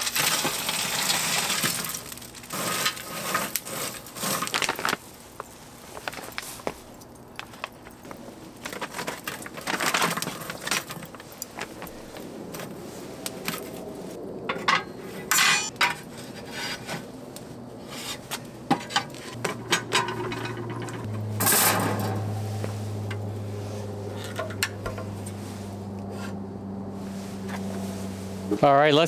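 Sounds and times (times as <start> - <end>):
charcoal clinking and scraping: 0.0 - 12.8, 14.5 - 17.1, 17.8 - 26.4
low steady hum: 4.9 - 29.0.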